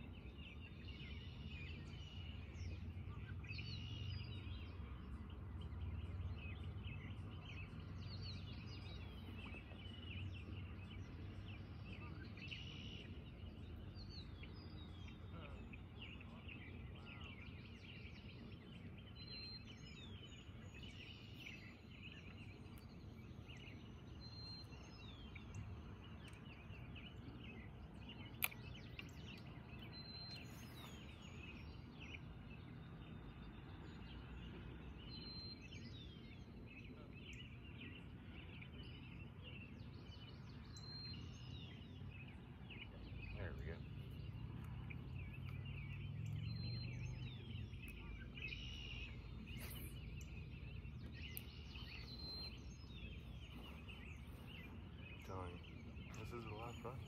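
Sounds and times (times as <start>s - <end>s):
low steady outdoor rumble: 0.0s - 57.0s
birds chirping and whistling: 0.1s - 57.0s.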